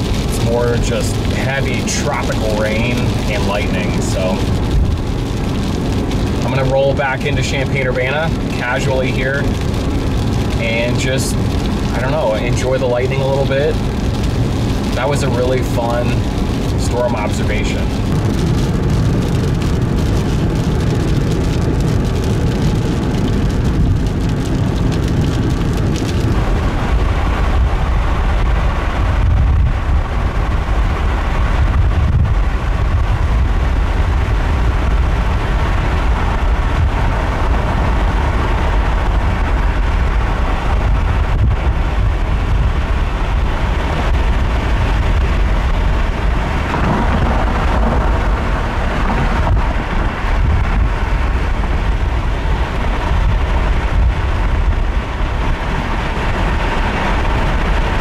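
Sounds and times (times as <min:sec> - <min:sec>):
car road and engine noise: 0:00.0 - 0:58.0
rain on vehicle: 0:00.0 - 0:58.0.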